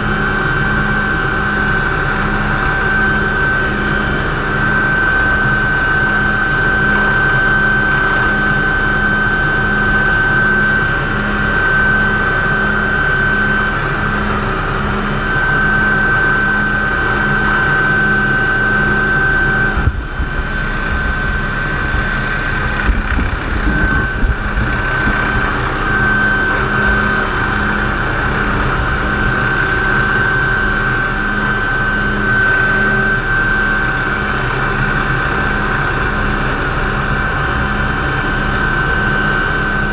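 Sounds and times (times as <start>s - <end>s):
helicopter turbine whine: 0.0s - 39.9s
rotor drone: 0.0s - 39.9s.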